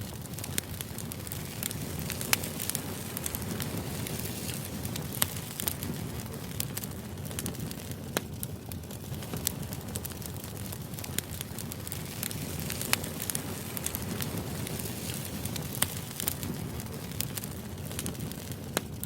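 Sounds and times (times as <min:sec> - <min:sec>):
sharp irregular crackles: 0:00.0 - 0:19.0.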